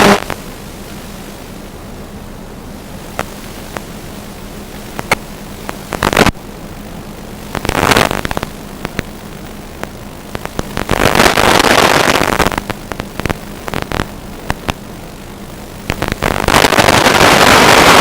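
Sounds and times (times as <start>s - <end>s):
radio static hiss with crackles: 0.0s - 18.0s.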